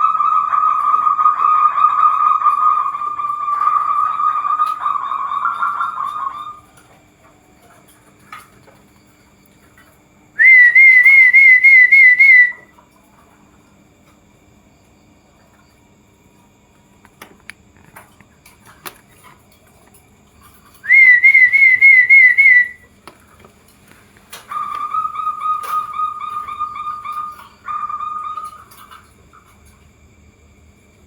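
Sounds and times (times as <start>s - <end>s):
doves cooing: 0.1s - 9.8s, 10.4s - 12.9s, 16.9s - 29.9s.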